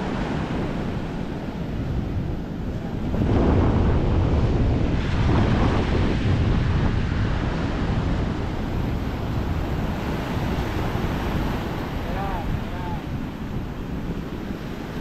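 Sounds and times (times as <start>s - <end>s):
ocean surf breaking: 0.0s - 15.0s
wind rumble on microphone: 0.0s - 15.0s.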